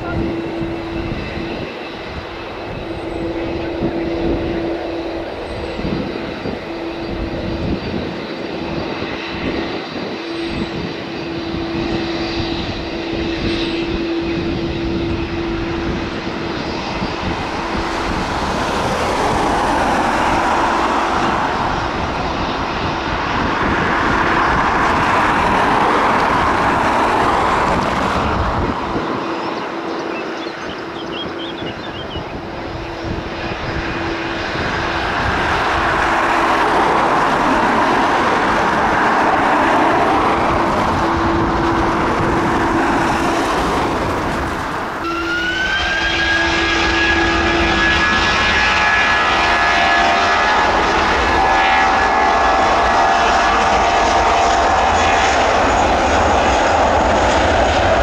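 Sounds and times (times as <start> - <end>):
jet engines passing: 0.0 - 58.0.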